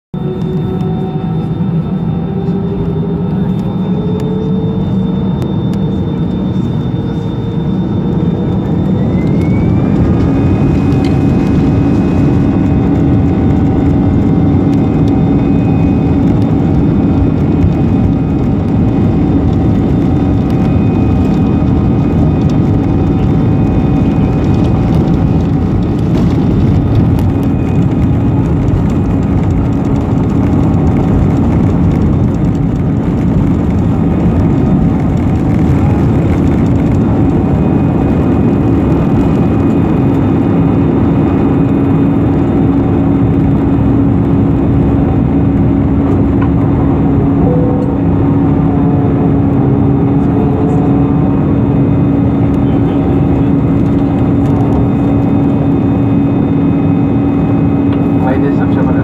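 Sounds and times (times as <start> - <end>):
jet engines whining: 0.2 - 59.0.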